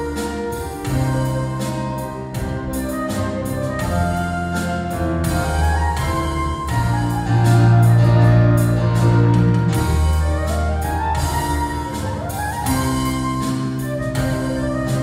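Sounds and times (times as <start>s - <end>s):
live band held chords: 0.0s - 15.0s.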